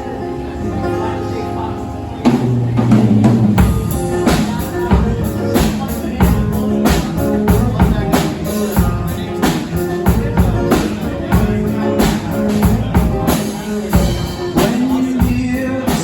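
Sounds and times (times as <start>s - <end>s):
guitar chords ringing: 0.0s - 16.0s
live band playing: 0.0s - 16.0s
drum kit beat: 2.2s - 16.0s.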